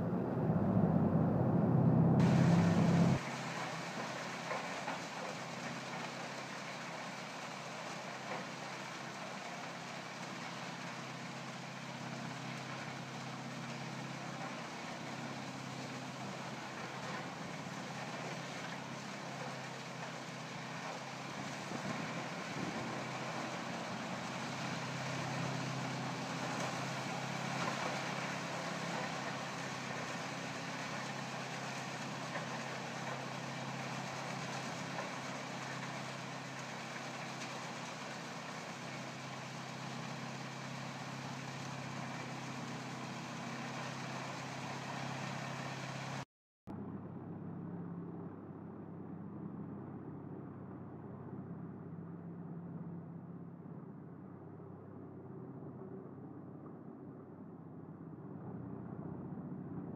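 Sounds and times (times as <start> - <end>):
wood chipper engine drone: 0.0 - 59.9.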